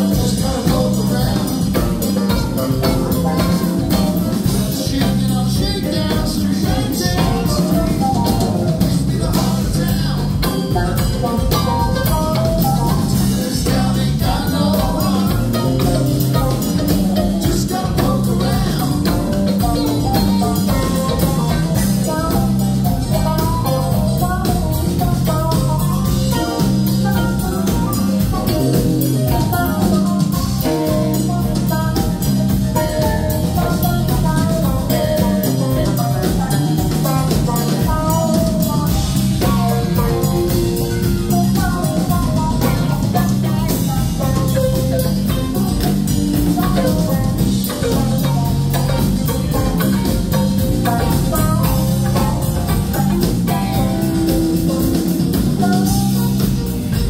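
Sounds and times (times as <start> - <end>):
bass line: 0.0 - 57.0
drum kit: 0.0 - 57.0
electric guitars: 0.0 - 57.0
keyboards: 0.0 - 57.0.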